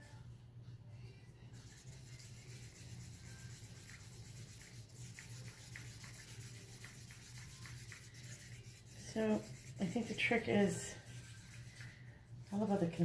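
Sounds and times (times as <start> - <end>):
low steady hum: 0.0 - 13.0
stick stirring paint in a cup: 1.4 - 13.0.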